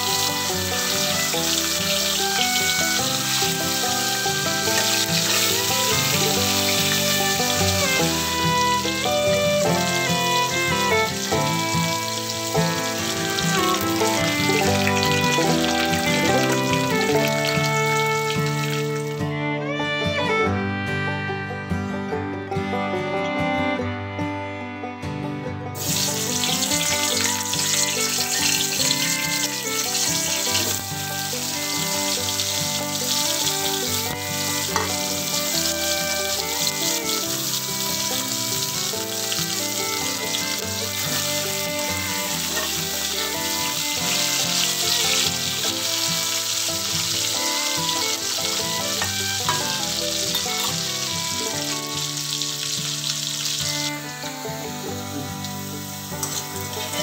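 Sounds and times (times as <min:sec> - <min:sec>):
potatoes sizzling in hot oil: 0:00.0 - 0:19.2, 0:25.8 - 0:57.0
background music: 0:00.0 - 0:57.0.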